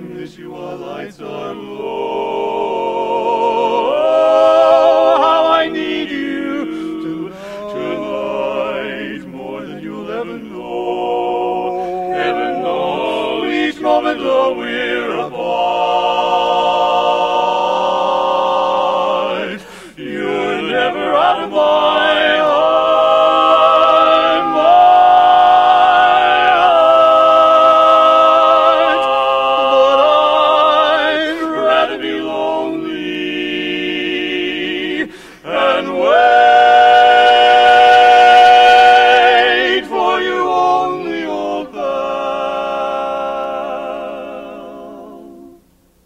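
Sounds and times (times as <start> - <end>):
male vocal quartet singing a cappella: 0.0 - 45.8.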